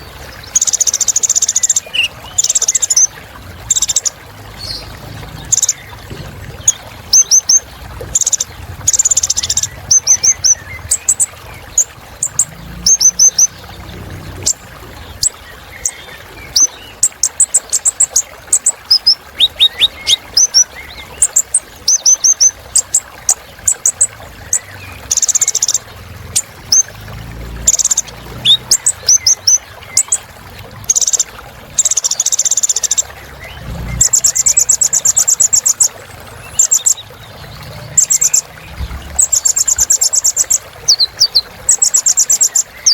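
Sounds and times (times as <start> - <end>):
sunbird singing chirps and trills: 0.0 - 30.3, 30.9 - 42.9.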